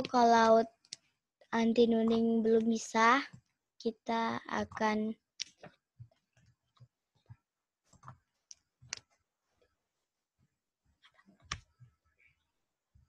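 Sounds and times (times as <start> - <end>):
faint clicks and soft taps: 0.0 - 3.6, 4.6 - 13.0.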